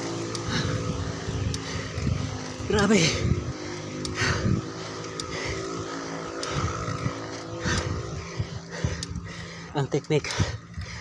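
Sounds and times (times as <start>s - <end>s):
motorcycle engine labouring: 0.0s - 11.0s
wind on microphone: 0.4s - 9.4s.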